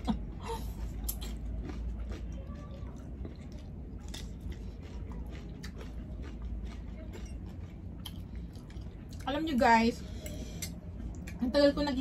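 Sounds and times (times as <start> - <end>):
people chewing noodles: 0.0 - 11.7.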